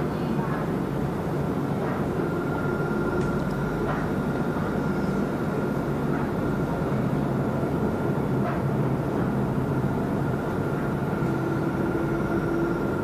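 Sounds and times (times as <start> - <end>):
tram running along track: 0.0 - 13.0.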